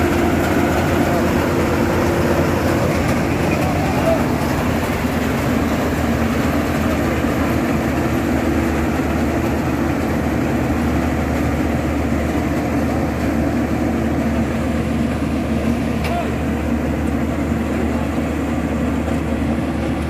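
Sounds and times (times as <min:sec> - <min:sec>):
combine harvester droning: 0:00.0 - 0:20.0.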